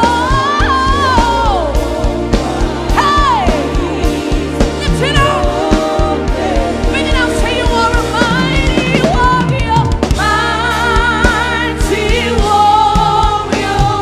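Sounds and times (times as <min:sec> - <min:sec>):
bass: 0:00.0 - 0:14.0
person singing with vibrato: 0:00.0 - 0:14.0
steady drum beat: 0:00.0 - 0:14.0
sustained keyboard chords: 0:00.0 - 0:14.0.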